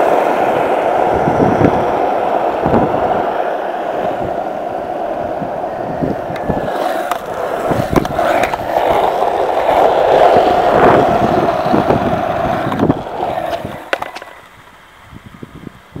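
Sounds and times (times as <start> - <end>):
skate wheels rolling on asphalt: 0.0 - 16.0.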